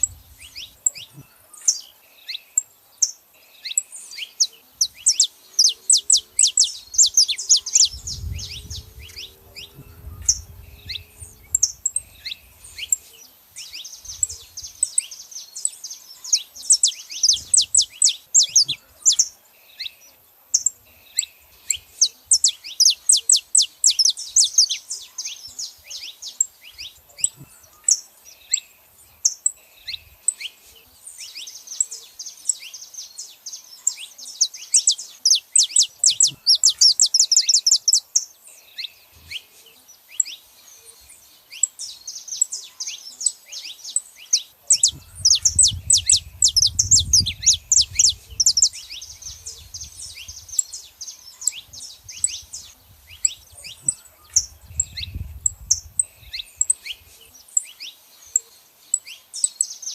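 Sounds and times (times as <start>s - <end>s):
finches chirping and singing: 0.0s - 59.9s.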